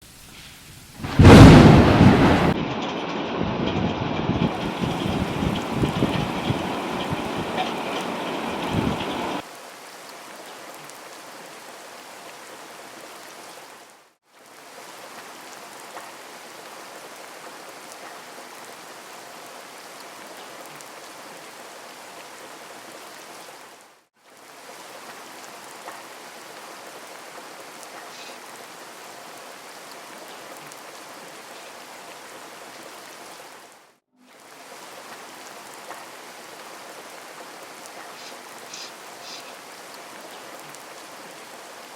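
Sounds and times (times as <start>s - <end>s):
rain-like hiss: 0.0s - 41.9s.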